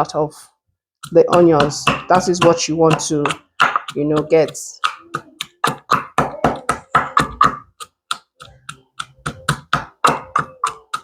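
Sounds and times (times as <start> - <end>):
pestle pounding in a mortar: 1.0 - 11.0.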